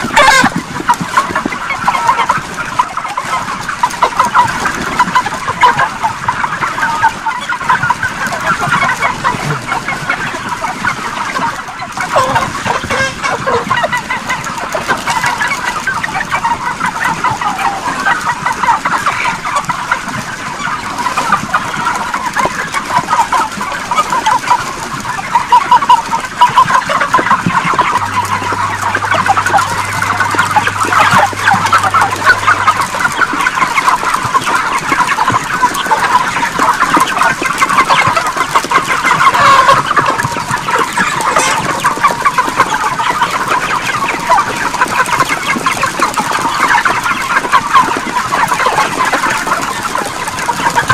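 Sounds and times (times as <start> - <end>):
chickens clucking and calling: 0.0 - 50.9.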